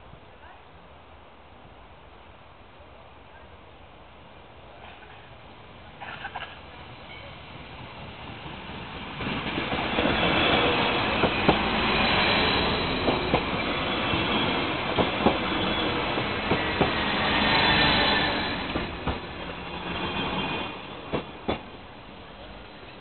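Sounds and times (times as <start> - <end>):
train passing: 4.0 - 23.0.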